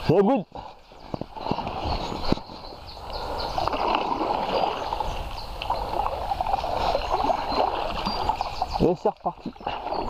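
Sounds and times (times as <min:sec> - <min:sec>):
paddles splashing in water: 0:00.6 - 0:10.0.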